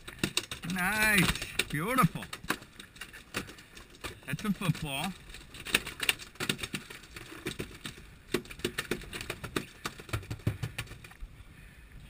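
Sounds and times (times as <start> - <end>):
fish thrashing on deck: 0.0 - 11.2.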